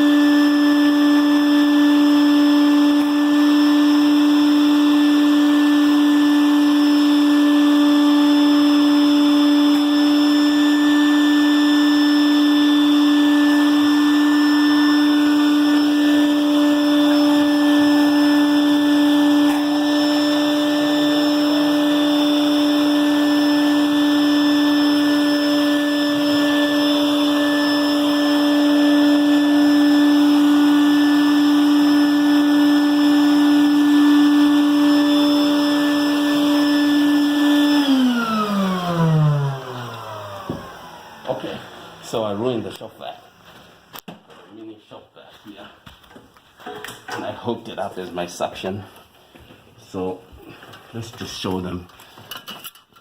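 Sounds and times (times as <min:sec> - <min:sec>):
shop vac motor whining: 0:00.0 - 0:44.1.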